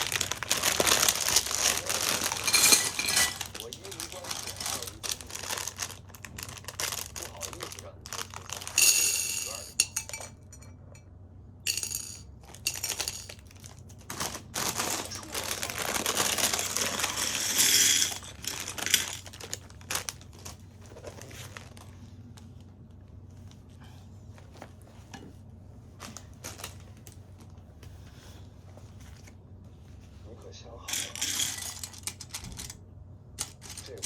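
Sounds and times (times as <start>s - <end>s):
crinkling and rustling: 0.0s - 10.4s, 12.4s - 30.3s, 33.4s - 34.0s.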